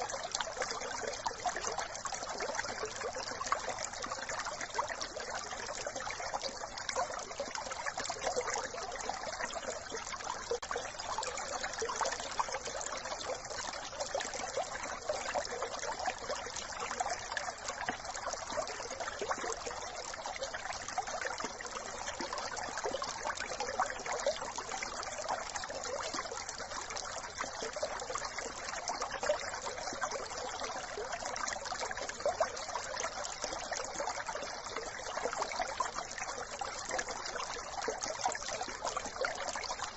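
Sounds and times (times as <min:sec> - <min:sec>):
brook trickling over stones: 0:00.0 - 0:39.9.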